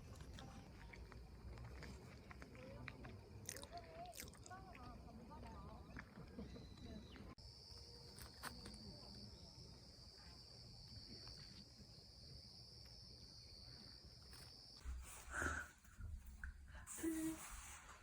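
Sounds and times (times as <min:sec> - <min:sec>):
crickets chirring: 0:00.1 - 0:15.7.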